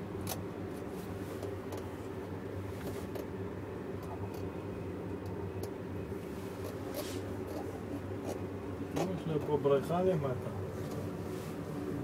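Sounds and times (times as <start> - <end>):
cable car cabin hum and rumble: 0.0 - 12.0.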